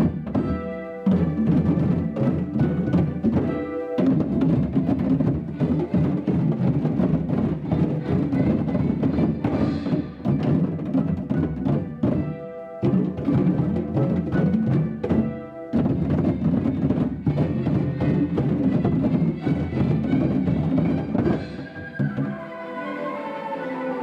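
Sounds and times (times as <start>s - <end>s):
music with drum beat: 0.0s - 22.3s.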